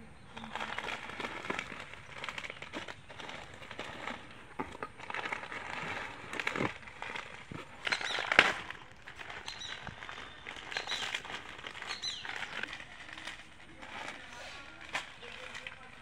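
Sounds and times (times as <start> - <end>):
plastic packets crinkling: 0.2 - 16.0.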